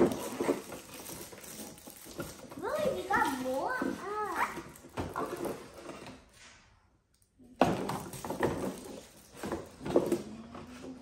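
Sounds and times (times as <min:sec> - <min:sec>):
cardboard boxes rustling and clattering: 0:00.0 - 0:06.4, 0:07.6 - 0:11.0.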